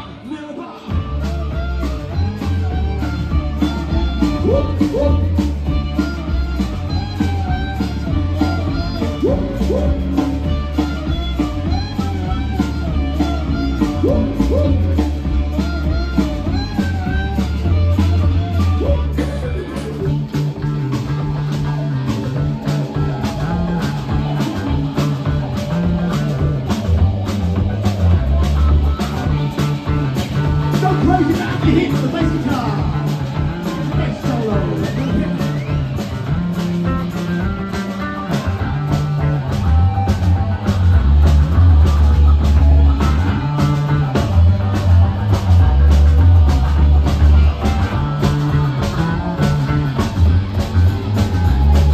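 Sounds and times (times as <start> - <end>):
electric bass guitar: 0.0 - 51.9
rock band playing loudly: 0.0 - 51.9
drum beat: 1.0 - 51.9.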